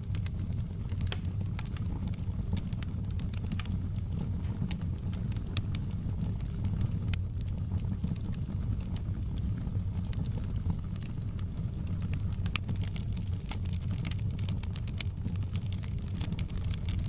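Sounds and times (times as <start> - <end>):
fire crackles and pops: 0.0 - 17.0
fireplace fire rumbling: 0.0 - 17.0.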